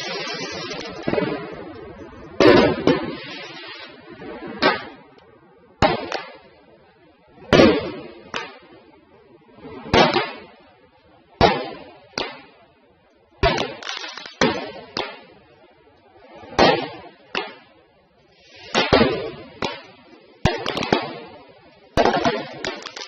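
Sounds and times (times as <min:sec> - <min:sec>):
fireworks bursting with rumble: 0:00.0 - 0:23.0.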